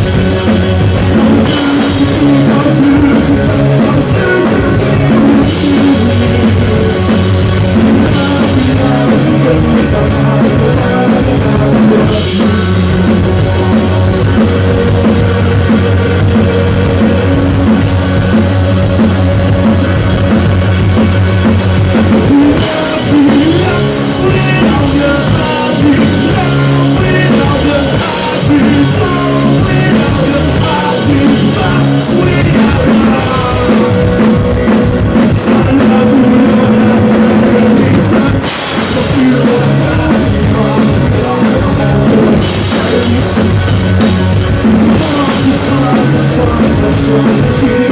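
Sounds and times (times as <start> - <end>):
drum kit: 0.0 - 47.9
guitar: 0.0 - 47.9
live rock music: 0.0 - 47.9
person singing: 0.0 - 47.9.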